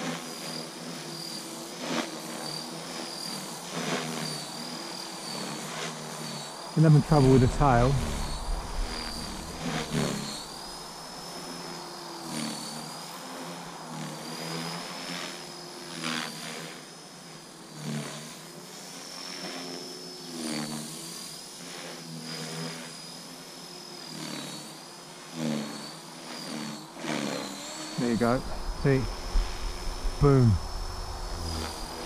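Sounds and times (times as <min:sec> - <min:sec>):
rc helicopter motor whine: 0:00.0 - 0:32.0
helicopter rotor sound: 0:00.1 - 0:19.4, 0:24.0 - 0:32.0.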